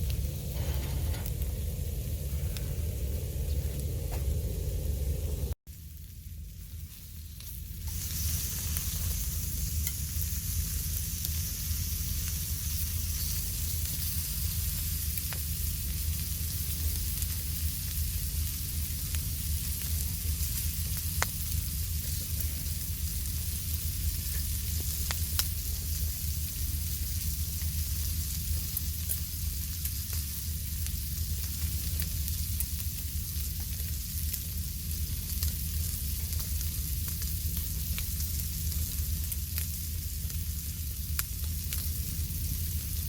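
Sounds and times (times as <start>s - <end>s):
low rumble: 0.0s - 43.0s
food sizzling in a pan: 5.3s - 43.0s.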